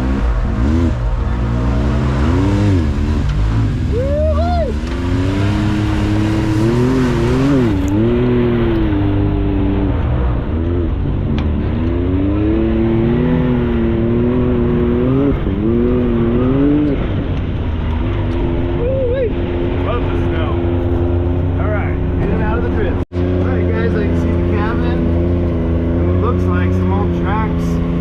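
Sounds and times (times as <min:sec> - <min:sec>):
utility vehicle engine revving: 0:00.0 - 0:28.0.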